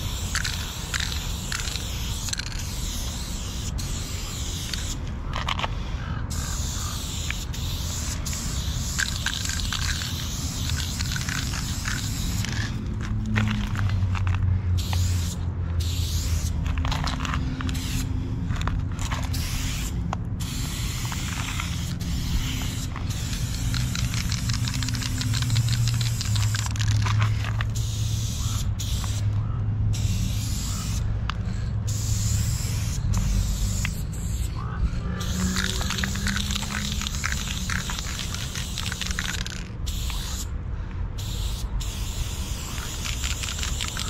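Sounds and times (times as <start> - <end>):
spray paint can hissing: 0.0 - 40.6, 41.2 - 44.0.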